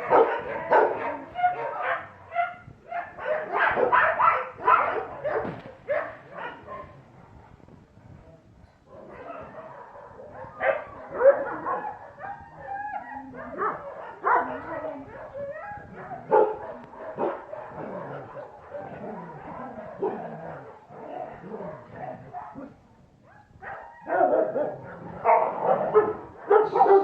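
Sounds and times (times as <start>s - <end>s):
dogs barking and yipping: 0.0s - 7.0s, 8.9s - 27.0s.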